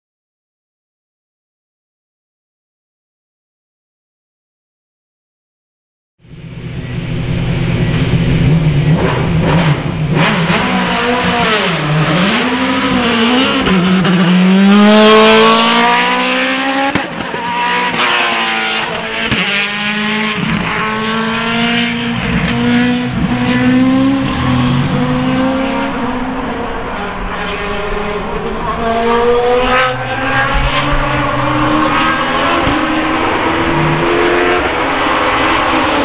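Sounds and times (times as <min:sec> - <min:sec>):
race car engine revving: 0:06.2 - 0:36.0.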